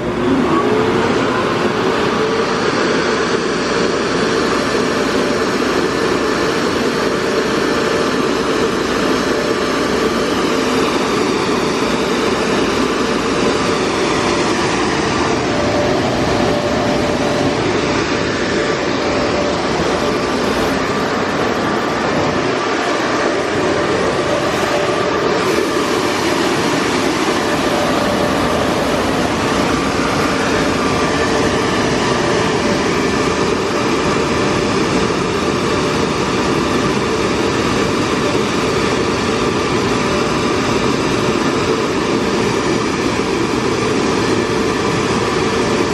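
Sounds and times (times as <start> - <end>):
car wash dryer blowers: 0.0 - 45.9.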